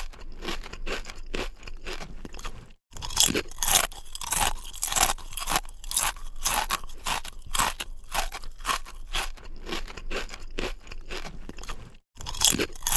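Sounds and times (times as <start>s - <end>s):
crunchy chewing: 0.0s - 12.9s.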